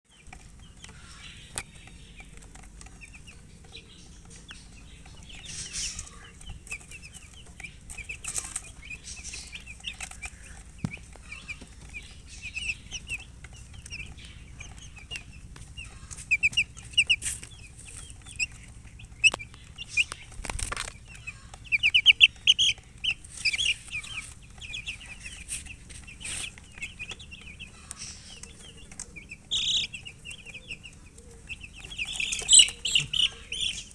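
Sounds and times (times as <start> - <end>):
baby chicks peeping: 0.0 - 33.9
rustling: 0.1 - 33.9.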